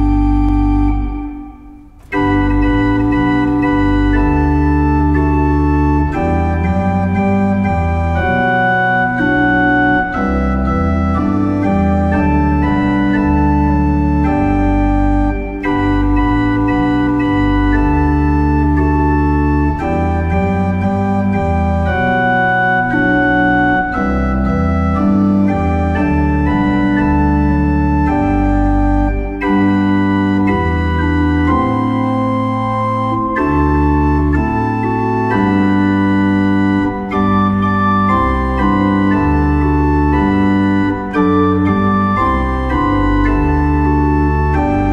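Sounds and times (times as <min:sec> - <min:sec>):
organ-like keyboard chords: 0:00.0 - 0:44.9.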